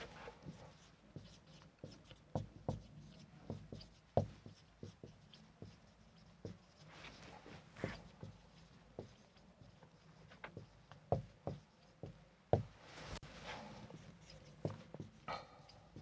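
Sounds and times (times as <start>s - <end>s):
marker pen on whiteboard: 0.0s - 16.0s.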